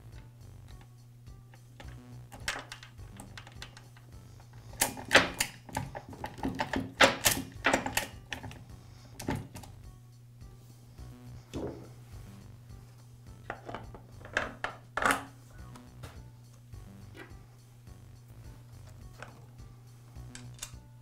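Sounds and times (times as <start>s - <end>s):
quiet background music: 0.0s - 21.0s.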